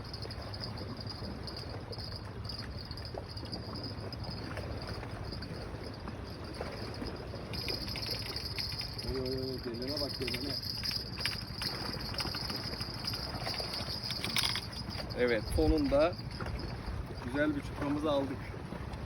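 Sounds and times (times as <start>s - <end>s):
insects chirping: 0.0s - 17.6s.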